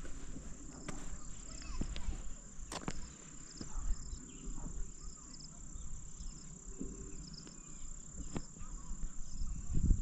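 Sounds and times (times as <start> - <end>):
insects trilling: 0.0 - 10.0
faint chirps: 0.1 - 10.0.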